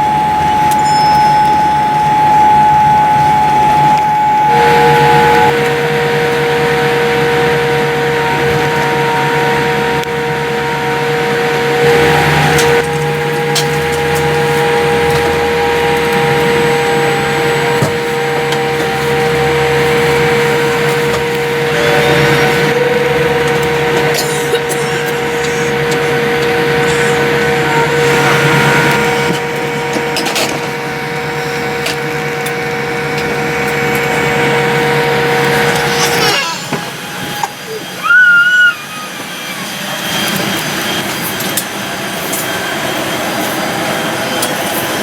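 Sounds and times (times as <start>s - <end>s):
airplane cabin air rush: 0.0s - 45.0s
constant whine: 0.0s - 45.0s.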